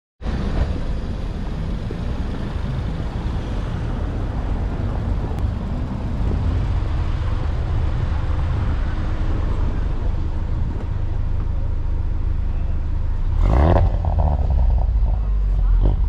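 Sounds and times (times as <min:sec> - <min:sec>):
car engine idling: 0:00.2 - 0:16.0.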